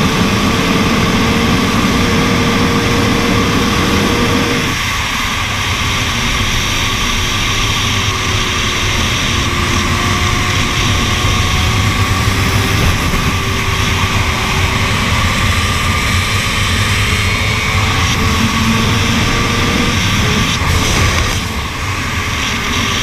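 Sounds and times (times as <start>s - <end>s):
motorcycle engine cruising: 0.0s - 5.0s, 7.0s - 23.0s
wind rush on microphone: 0.0s - 23.0s.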